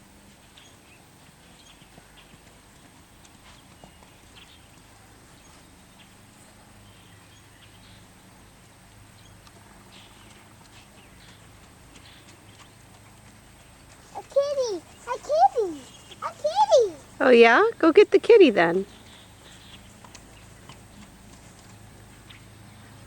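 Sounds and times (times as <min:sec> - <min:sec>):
horse hooves clopping: 0:00.2 - 0:07.4, 0:08.4 - 0:23.0.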